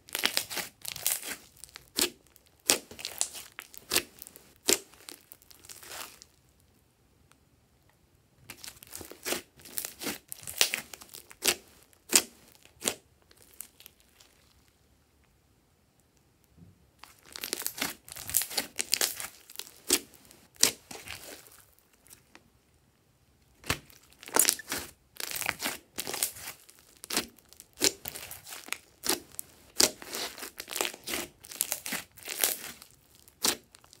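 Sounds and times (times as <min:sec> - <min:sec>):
slime crackling and popping: 0:00.1 - 0:06.4, 0:08.5 - 0:14.7, 0:17.0 - 0:22.2, 0:23.6 - 0:34.0.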